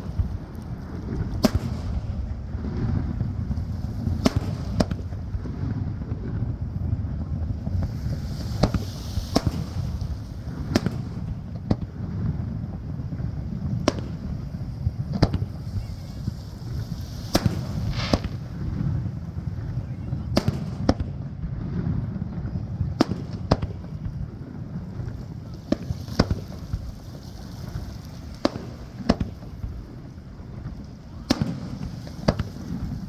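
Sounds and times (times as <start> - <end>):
continuous low rumble: 0.0 - 33.0
fireworks bursting: 0.0 - 33.0.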